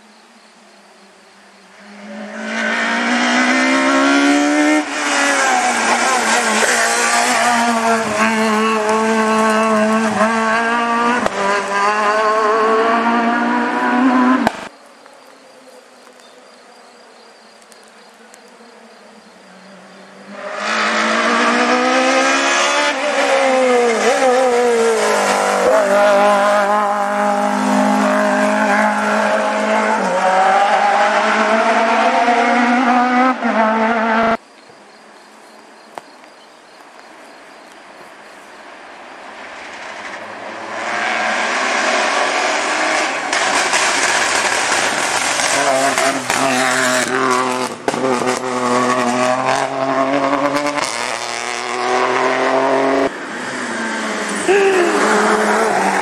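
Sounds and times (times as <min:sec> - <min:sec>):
rally car engine at full throttle: 0:01.6 - 0:14.8, 0:18.8 - 0:34.4, 0:39.3 - 0:56.0.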